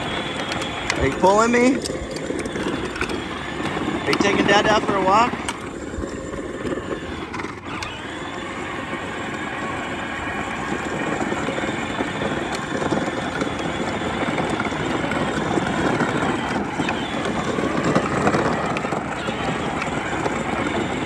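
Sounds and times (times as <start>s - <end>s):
toy tractor motor hum: 0.0s - 21.0s
wheels rolling over ground: 0.0s - 21.0s.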